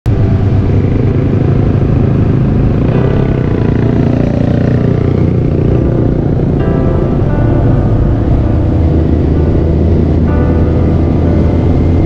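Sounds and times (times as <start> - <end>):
motorcycle engine rumble: 0.1 - 12.0
road and wind noise: 0.1 - 12.0.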